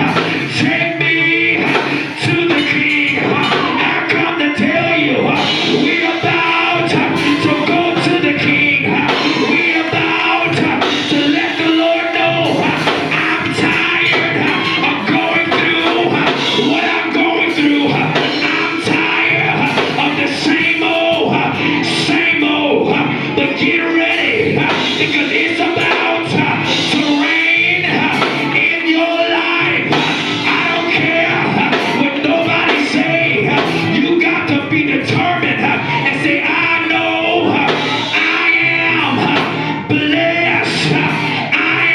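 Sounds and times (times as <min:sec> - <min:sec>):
band with drums playing: 0:00.0 - 0:41.9
gospel church music: 0:00.0 - 0:41.9
voices singing: 0:00.0 - 0:41.9.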